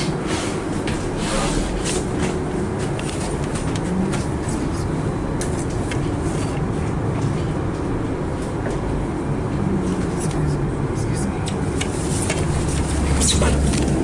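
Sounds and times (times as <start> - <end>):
bus interior hum and rumble: 0.0 - 14.0.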